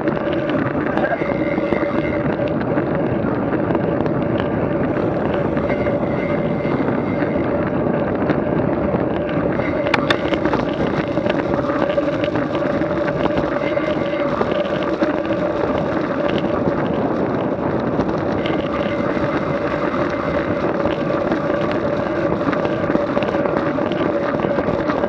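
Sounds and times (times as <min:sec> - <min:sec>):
steady engine drone: 0:00.0 - 0:25.0
wind on microphone: 0:00.0 - 0:25.0.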